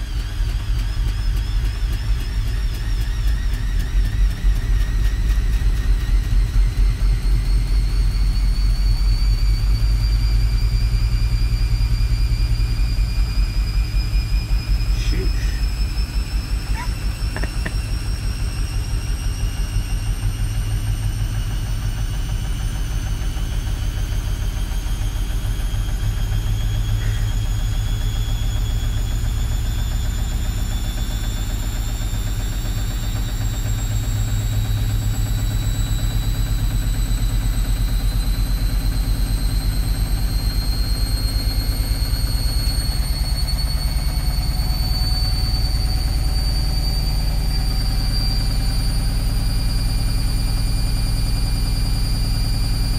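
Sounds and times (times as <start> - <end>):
washing machine motor whine: 0.0 - 52.9.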